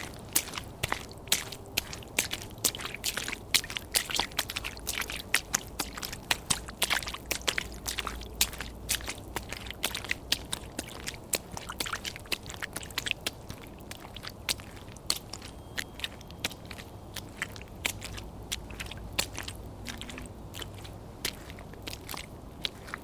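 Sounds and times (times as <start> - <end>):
footsteps on crunching surface: 0.0 - 23.0.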